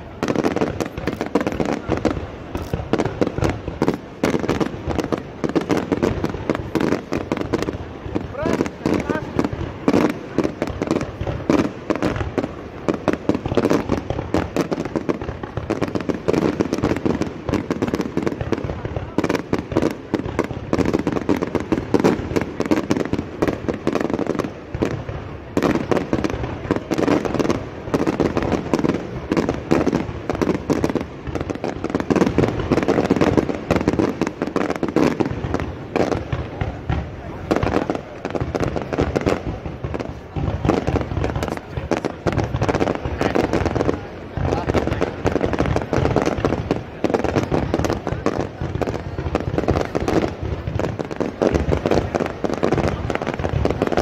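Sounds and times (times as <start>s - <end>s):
fireworks crackling and popping: 0.0s - 54.0s.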